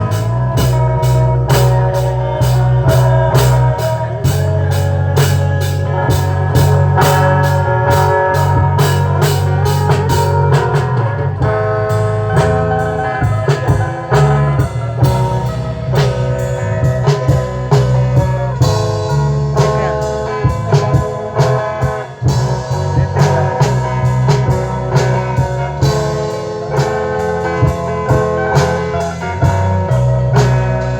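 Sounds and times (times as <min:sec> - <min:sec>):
band music over pa system: 0:00.0 - 0:30.9.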